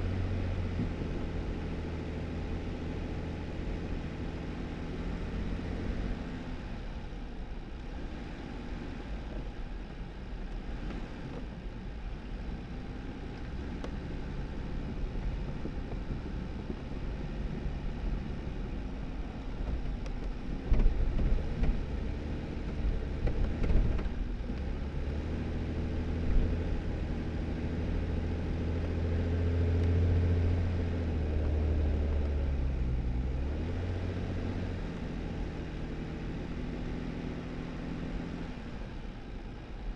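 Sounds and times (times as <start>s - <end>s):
low engine hum: 0.0s - 39.9s
tyre noise on snowy dirt road: 0.0s - 39.9s.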